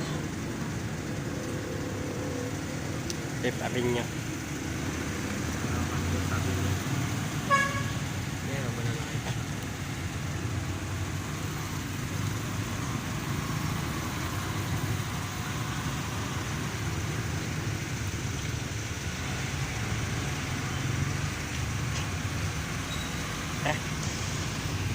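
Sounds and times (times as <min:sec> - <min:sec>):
road noise: 0:00.0 - 0:24.9
truck engine drone: 0:00.0 - 0:24.9.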